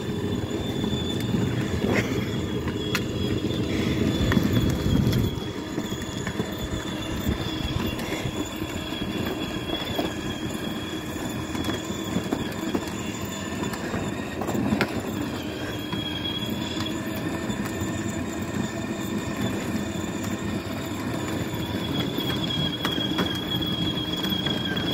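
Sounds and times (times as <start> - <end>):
electric motor whine: 0.0 - 24.9
wheels rolling on asphalt: 0.0 - 24.9.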